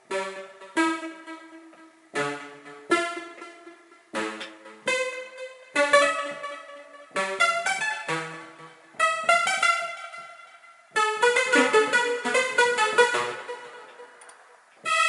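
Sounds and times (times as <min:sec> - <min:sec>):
synthesizer notes and chords: 0:00.0 - 0:15.0.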